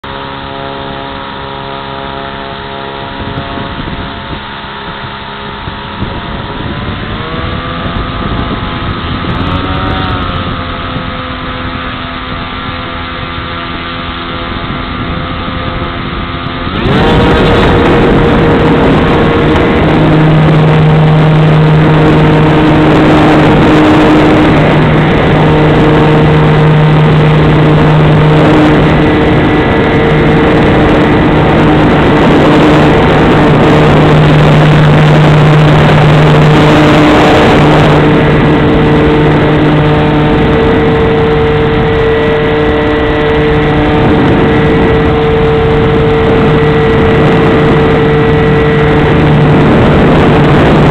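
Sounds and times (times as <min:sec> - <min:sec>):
model airplane motor and propeller: 0:00.0 - 0:50.9
rushing wind noise: 0:00.0 - 0:50.9.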